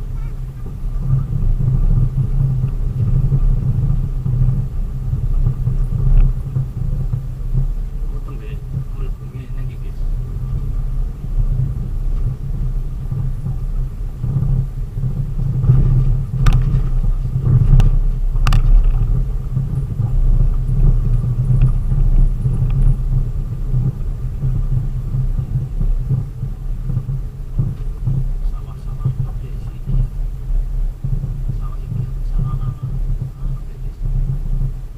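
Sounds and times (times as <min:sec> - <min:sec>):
vehicle rumble inside cab: 0:00.0 - 0:34.9.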